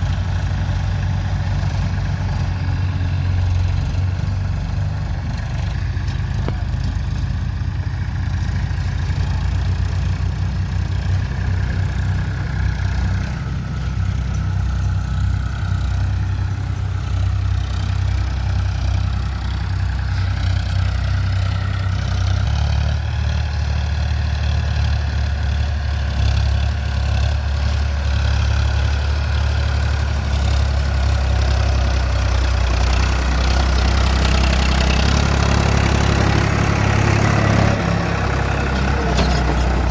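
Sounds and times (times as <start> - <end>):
diesel engine deep rumble: 0.0 - 39.9.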